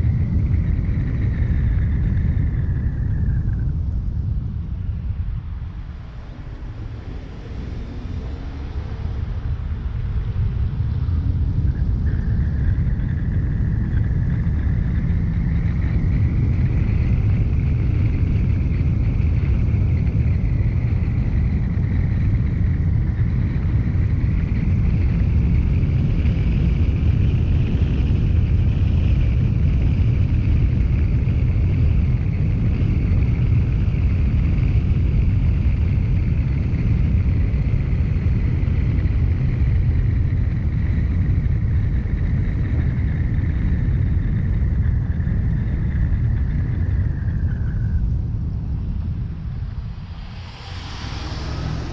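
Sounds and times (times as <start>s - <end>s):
faint high whine: 0.0s - 51.9s
road and engine rumble: 0.0s - 51.9s.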